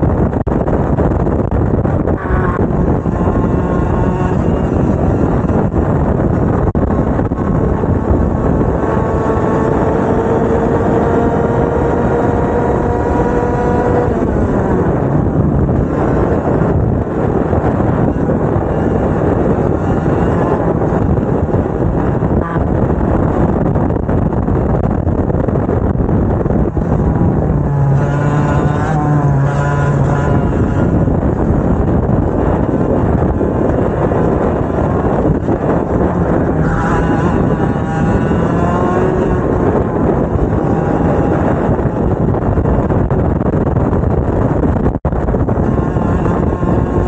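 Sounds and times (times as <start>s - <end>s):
kart engine pitch climbing: 0.0s - 47.0s
loud steady rush of noise: 0.0s - 47.0s.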